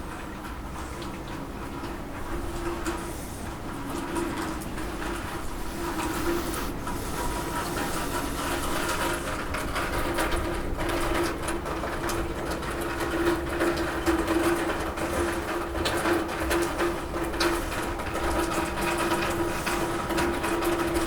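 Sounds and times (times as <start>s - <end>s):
rain on a roof: 0.0s - 21.0s.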